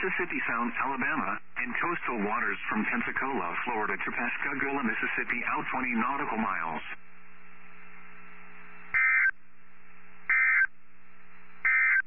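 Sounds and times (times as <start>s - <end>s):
radio hiss and hum: 0.0s - 12.0s.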